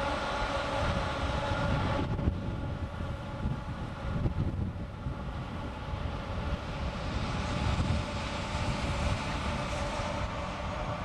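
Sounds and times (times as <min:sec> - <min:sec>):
electric locomotive humming: 0:00.0 - 0:11.0
train passing: 0:00.0 - 0:11.0.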